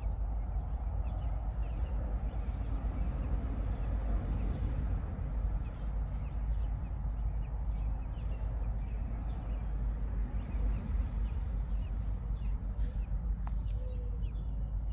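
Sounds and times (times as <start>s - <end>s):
small birds chirping: 0.0s - 14.9s
wind rumble on microphone: 0.0s - 14.9s.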